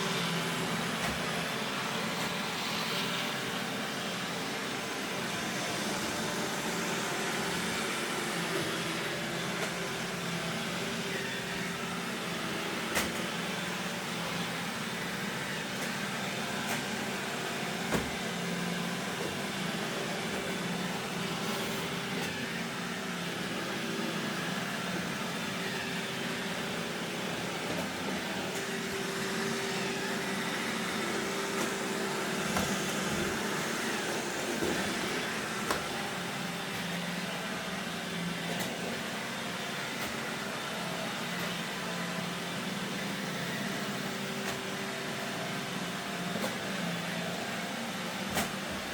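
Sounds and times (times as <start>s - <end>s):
robot vacuum running: 0.0s - 48.9s.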